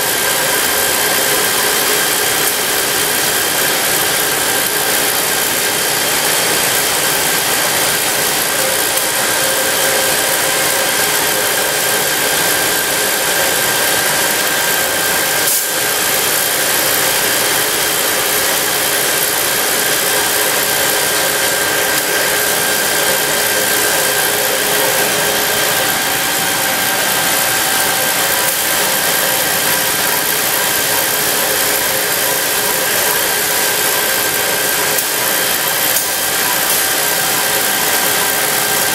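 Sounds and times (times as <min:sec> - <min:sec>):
constant high whine: 0:00.0 - 0:38.9
machinery noise: 0:00.0 - 0:38.9.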